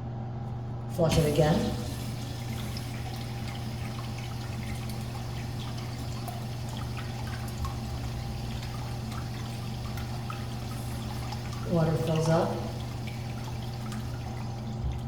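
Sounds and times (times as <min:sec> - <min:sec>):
urinal flushing water: 0:00.8 - 0:15.0.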